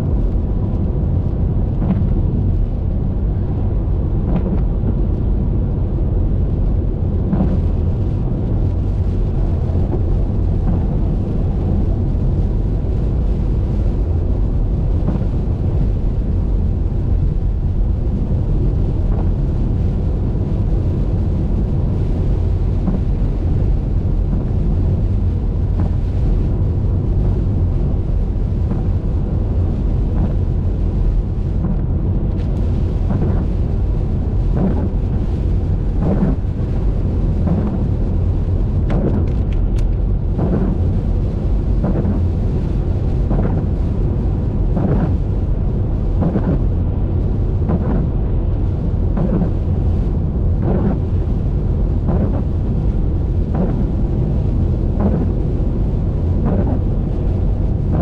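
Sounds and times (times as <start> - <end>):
road and wind rumble: 0.0 - 58.0.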